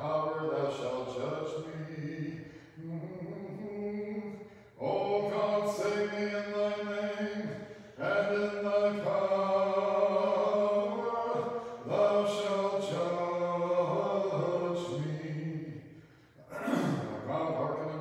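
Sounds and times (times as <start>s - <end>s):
unaccompanied liturgical chant: 0.0s - 18.0s.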